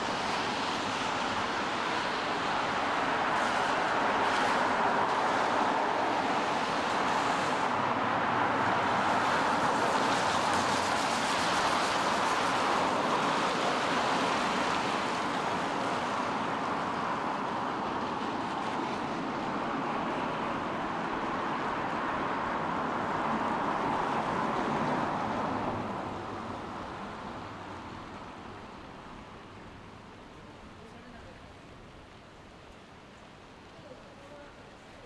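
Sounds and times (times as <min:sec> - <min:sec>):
tyres hissing on wet road: 0:00.0 - 0:32.1
rain: 0:00.0 - 0:35.0.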